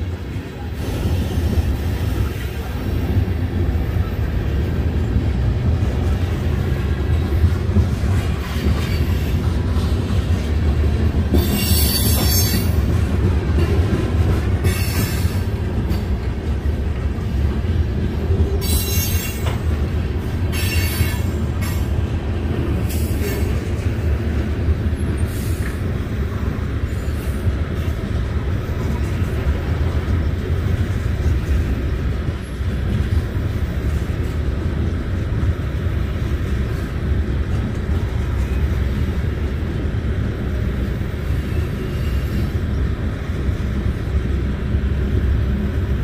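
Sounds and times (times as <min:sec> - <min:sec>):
freight train rumbling: 0:00.0 - 0:46.0.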